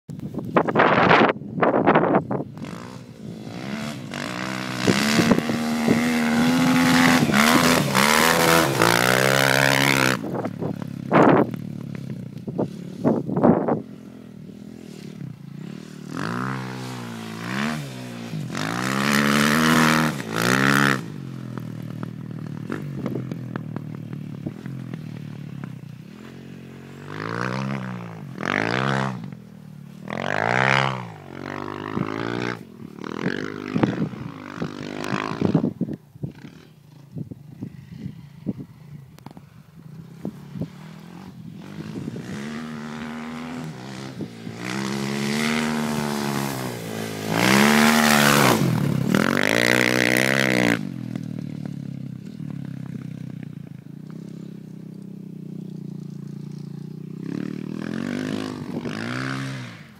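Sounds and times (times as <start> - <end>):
dirt bike engine revving: 0.7 - 59.9.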